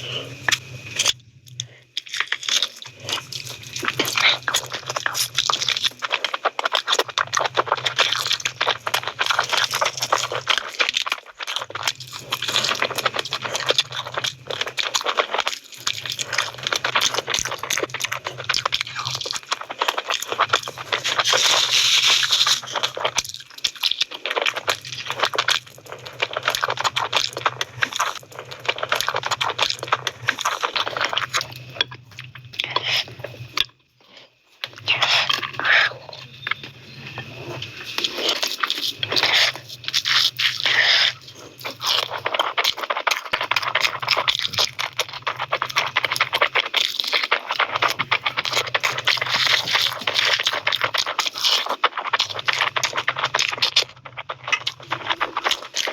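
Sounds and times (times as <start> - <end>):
wet chewing and tearing: 0.0 - 55.9.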